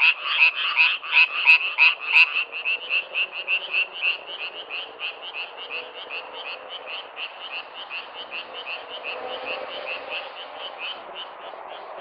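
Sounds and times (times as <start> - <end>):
background chorus of frogs: 0.0 - 12.0
frogs croaking rapidly: 0.0 - 12.0.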